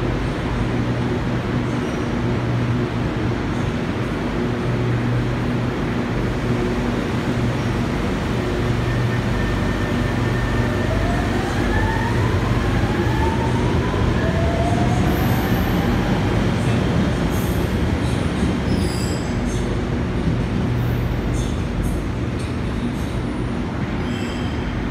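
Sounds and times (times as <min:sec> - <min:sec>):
train low hum: 0:00.0 - 0:24.9.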